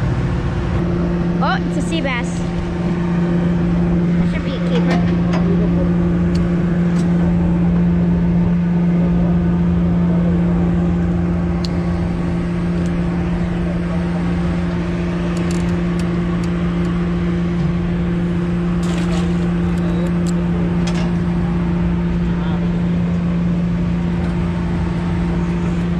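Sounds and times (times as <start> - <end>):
boat engine hum: 0.0 - 25.9.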